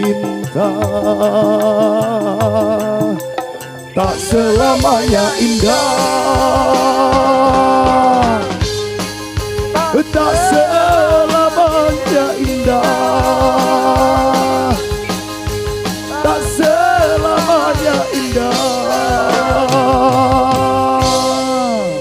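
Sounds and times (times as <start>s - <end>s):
bass: 0.0s - 22.0s
drum strokes: 0.0s - 22.0s
pitch-bending lead melody: 0.0s - 22.0s.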